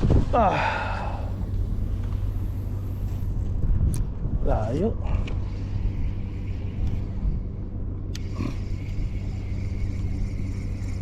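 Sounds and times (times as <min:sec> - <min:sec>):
small boat motor humming: 0:00.6 - 0:11.0.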